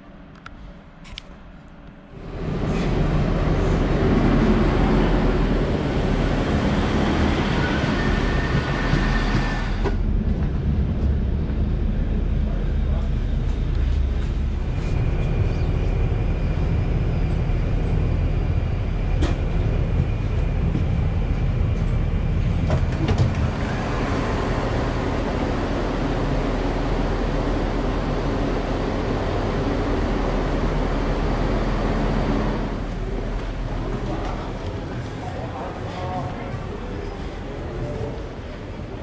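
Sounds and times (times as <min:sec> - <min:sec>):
train rumble with high whine: 0:00.0 - 0:39.0.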